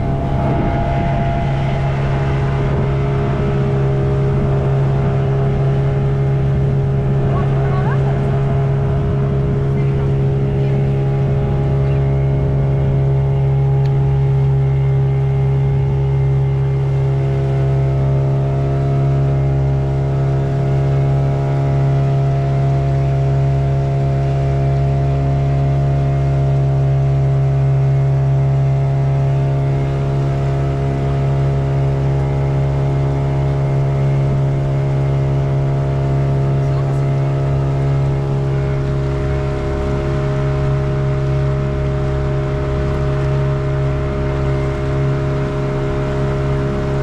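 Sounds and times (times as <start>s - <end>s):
motorboat engine droning: 0.0s - 47.0s.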